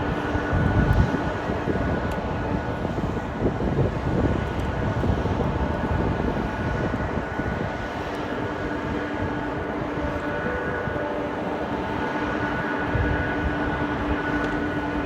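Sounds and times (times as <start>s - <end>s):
jet engines running: 0.0s - 15.0s
wind rumbling on microphone: 0.0s - 15.0s.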